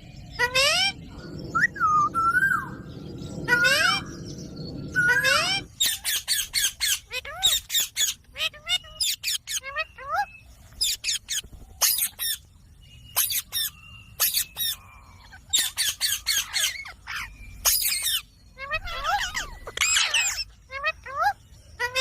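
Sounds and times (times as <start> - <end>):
parrots screeching squawks: 0.4 - 1.0, 3.5 - 4.2, 4.9 - 12.4, 13.2 - 22.0.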